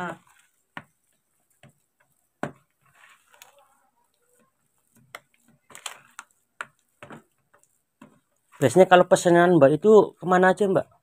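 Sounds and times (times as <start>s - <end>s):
dough squelching: 0.0s - 11.0s.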